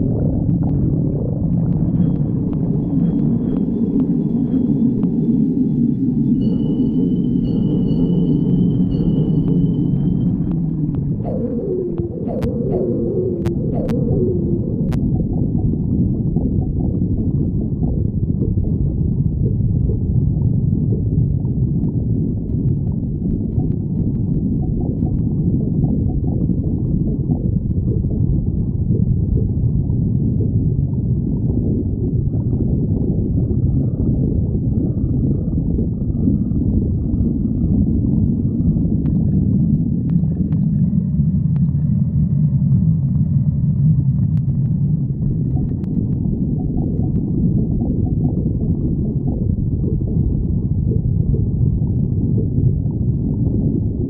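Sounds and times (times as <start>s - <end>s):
stomach growling: 0.0s - 5.6s, 8.9s - 54.0s.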